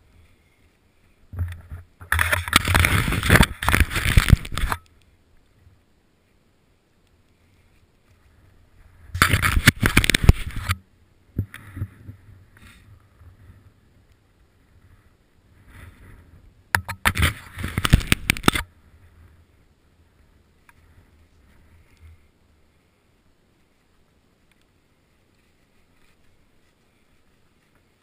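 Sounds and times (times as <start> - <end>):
faint rustling: 0.0 - 10.8, 11.4 - 28.0.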